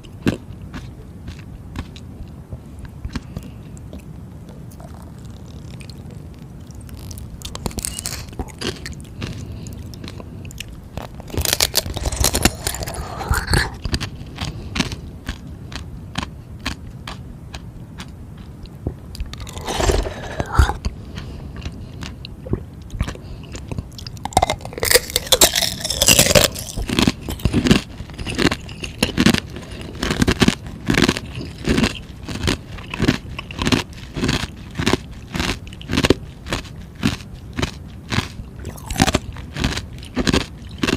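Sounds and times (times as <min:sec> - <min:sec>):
ice crunching while chewed: 0:00.0 - 0:02.4, 0:03.1 - 0:18.5, 0:19.1 - 0:40.9.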